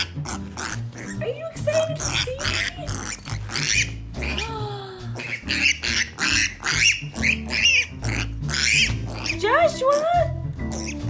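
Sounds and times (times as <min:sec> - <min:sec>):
background music: 0:00.0 - 0:11.0
pig squealing: 0:00.0 - 0:11.0.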